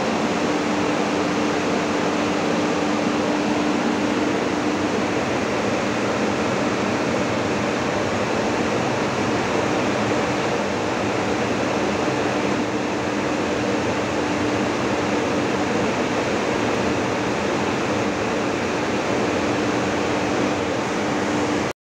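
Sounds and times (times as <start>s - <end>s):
constant machine hum: 0.0s - 21.7s
dryer fans rushing air: 0.0s - 21.7s.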